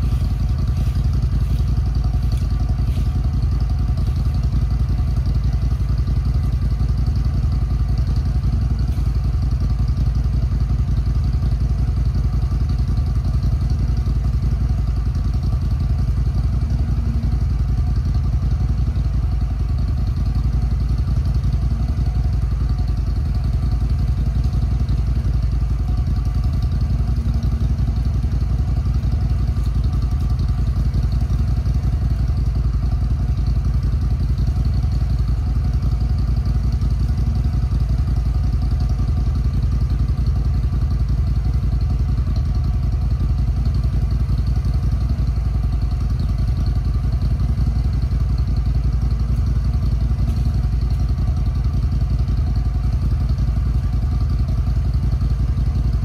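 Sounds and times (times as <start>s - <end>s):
stump grinder engine idling: 0.0s - 56.0s.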